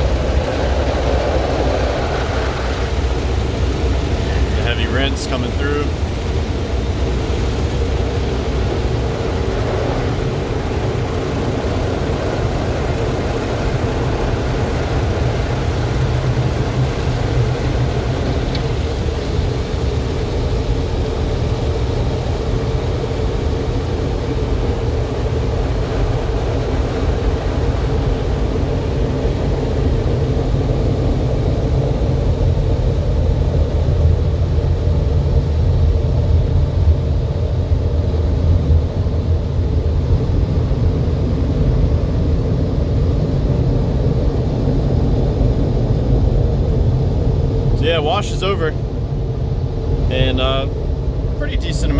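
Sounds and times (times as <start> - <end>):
car wash water spray and machinery: 0.0 - 51.9.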